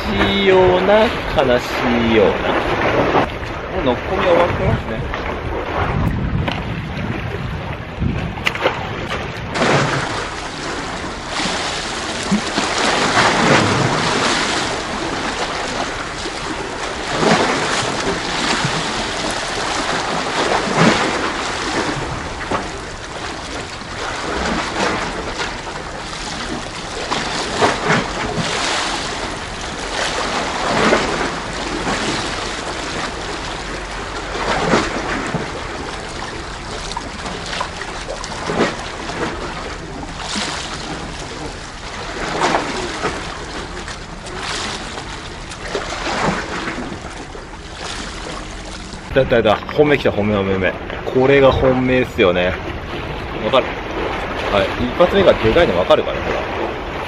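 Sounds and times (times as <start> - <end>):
sea waves washing on blocks: 0.0 - 57.0
wind rumbling on microphone: 0.0 - 57.0.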